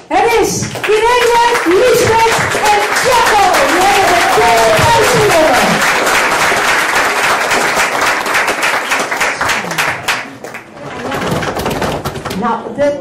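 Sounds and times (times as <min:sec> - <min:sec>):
audience applauding: 0:00.6 - 0:12.1.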